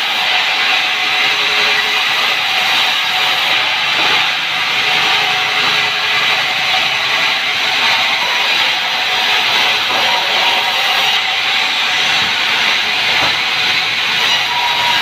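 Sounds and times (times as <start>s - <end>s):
saw cutting through a log: 0.0s - 15.0s.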